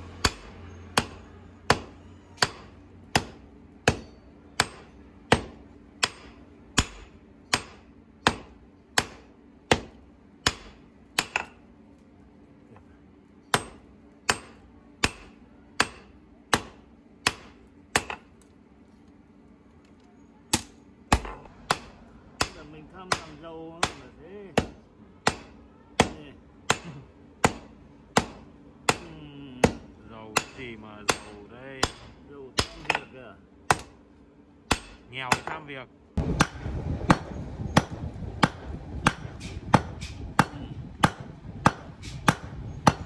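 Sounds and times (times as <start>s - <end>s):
hammer striking steel on anvil: 0.1s - 11.6s, 13.4s - 18.4s, 20.5s - 34.0s, 34.7s - 43.0s.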